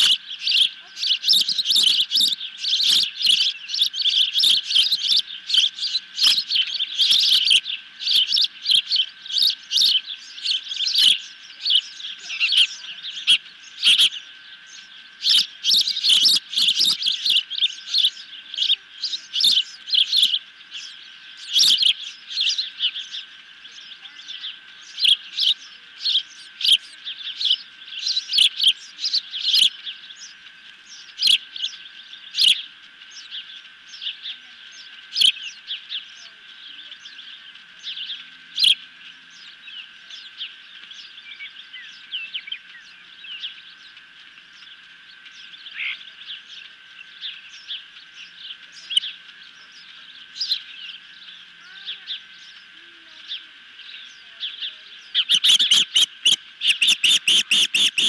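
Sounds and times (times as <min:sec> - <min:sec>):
faint steady high tone: 0:00.0 - 0:58.0
young ospreys chirping: 0:00.0 - 0:58.0.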